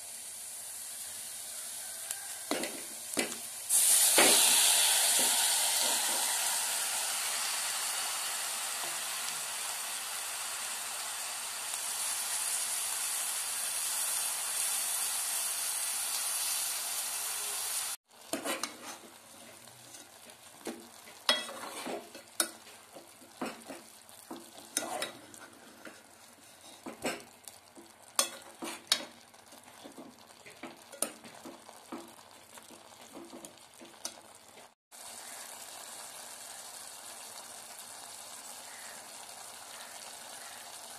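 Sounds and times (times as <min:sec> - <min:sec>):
meat sizzling in hot oil: 0:00.0 - 0:40.9.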